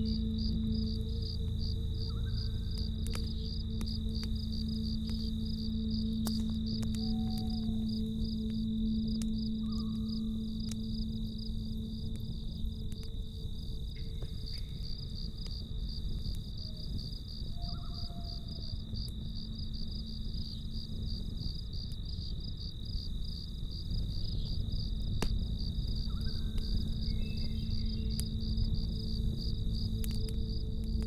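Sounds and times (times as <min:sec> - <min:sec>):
campfire rumble: 0:00.0 - 0:31.0
crickets chirping: 0:00.0 - 0:31.0.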